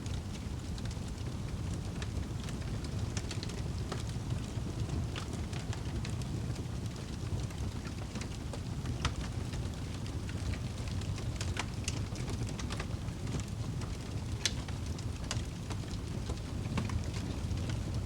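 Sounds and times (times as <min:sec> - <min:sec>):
fire rumbling: 0:00.0 - 0:18.0
wood fire crackles and pops: 0:00.0 - 0:18.0.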